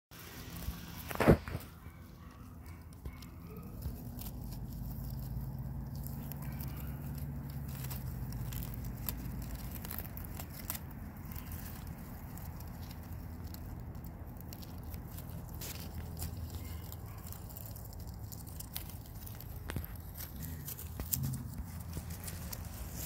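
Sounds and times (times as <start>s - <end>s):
puppies chewing dry grass and leaves: 0.1s - 23.0s
low steady rumble: 0.2s - 23.0s.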